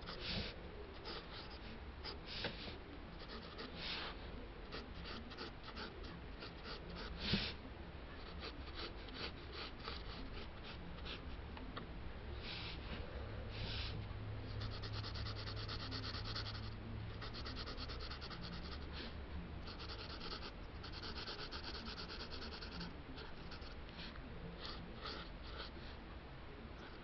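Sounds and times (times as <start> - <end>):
pencil scratching on paper: 0.0 - 7.6, 8.2 - 11.2, 14.5 - 25.8.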